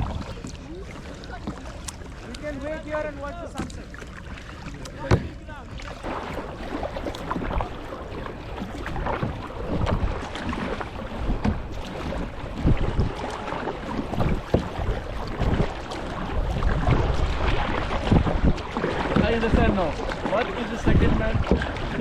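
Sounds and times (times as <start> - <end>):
wind buffeting microphone: 0.0 - 1.7, 4.6 - 22.0
water splashing around kayak: 0.0 - 22.0.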